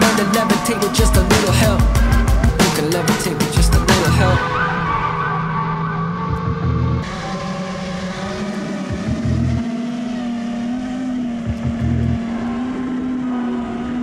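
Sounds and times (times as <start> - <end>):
deeper hum: 0.0 - 14.0
drone motors whining: 0.0 - 14.0.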